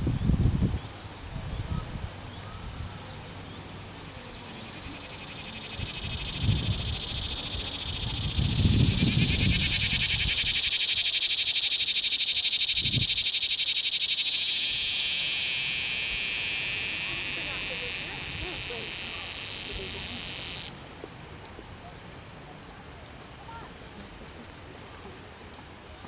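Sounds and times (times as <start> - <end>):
cicada buzzing song: 0.0 - 20.9.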